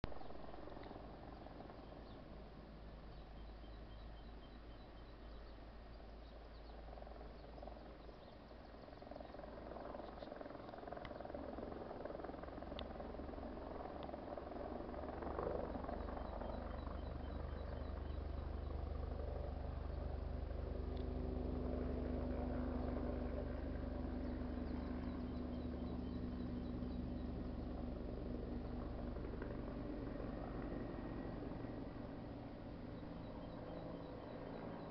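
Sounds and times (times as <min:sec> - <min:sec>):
distant propeller aircraft droning: 0:00.0 - 0:34.9.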